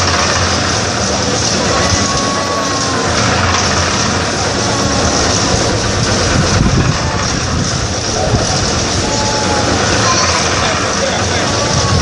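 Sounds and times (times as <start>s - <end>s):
concrete mixer rattling rumble: 0.0s - 12.0s.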